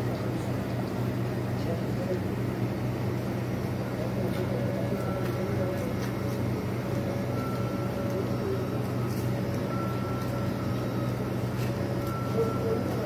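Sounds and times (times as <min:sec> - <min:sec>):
low hum of machinery: 0:00.0 - 0:13.0.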